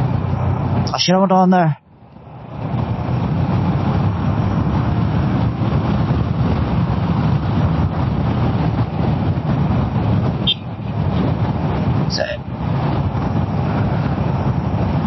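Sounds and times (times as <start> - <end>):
wind and road noise: 0.0 - 15.0
motorcycle engine: 2.3 - 15.0.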